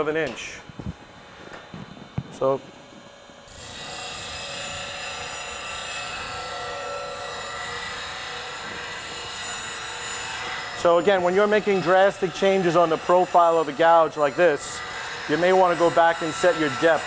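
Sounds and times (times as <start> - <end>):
bench grinder motor whine: 0.7 - 17.0.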